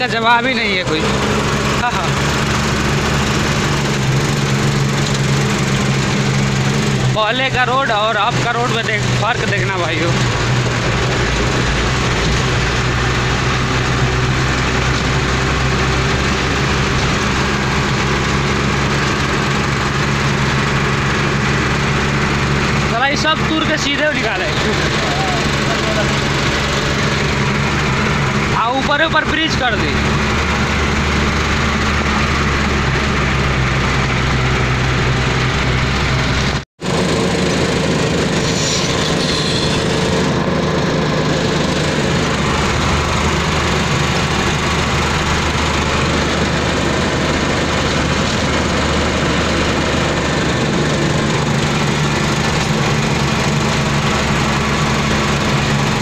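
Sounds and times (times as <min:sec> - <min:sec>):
road and cab noise: 0:00.0 - 0:56.0
truck diesel engine droning: 0:00.0 - 0:56.0.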